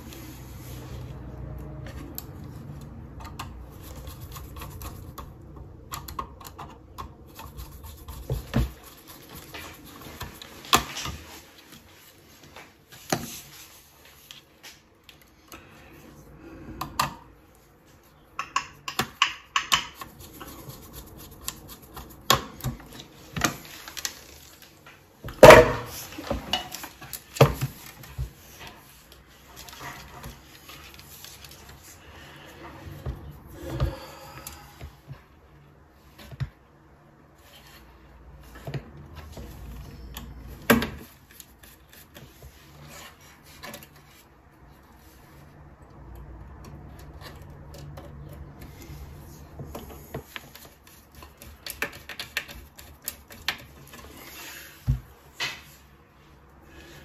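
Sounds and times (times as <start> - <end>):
wires clicking and scraping: 0.0 - 16.0, 16.6 - 57.0.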